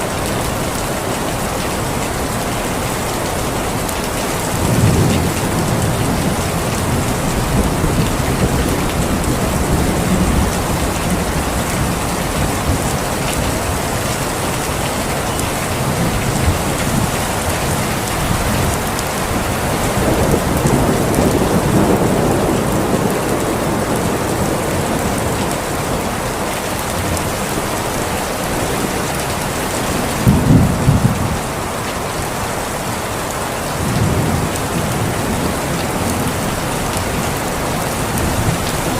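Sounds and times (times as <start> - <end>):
heavy rain: 0.0 - 38.9
thunder rumbling: 0.1 - 33.0.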